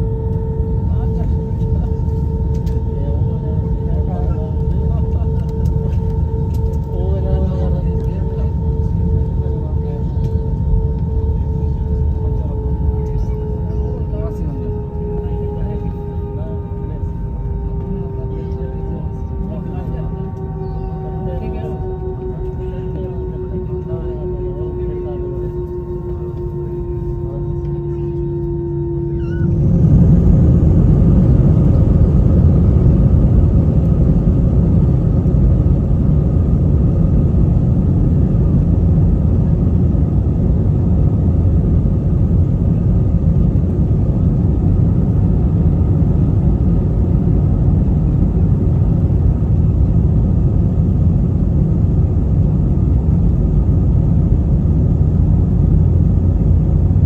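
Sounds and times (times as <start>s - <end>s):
deep engine rumble: 0.0s - 57.0s
jet engines humming: 0.0s - 57.0s.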